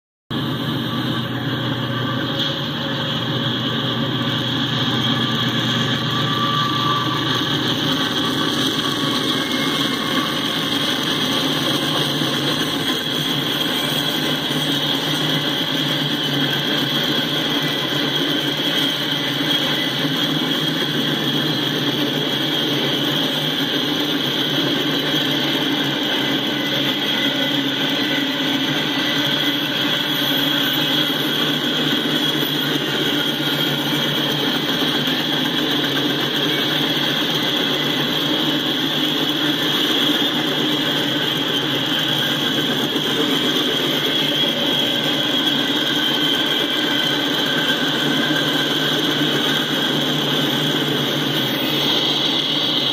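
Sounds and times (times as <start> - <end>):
high ringing tone: 0.3 - 52.9
train wheels rumbling on rails: 0.3 - 52.9.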